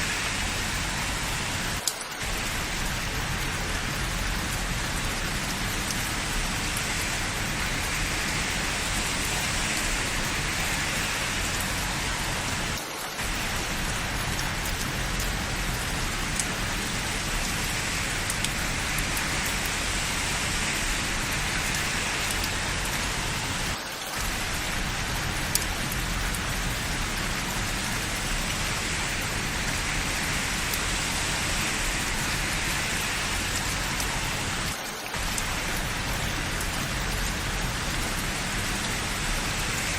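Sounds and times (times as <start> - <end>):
steady rain falling: 0.0 - 39.9
raindrop ticks: 0.1 - 39.9.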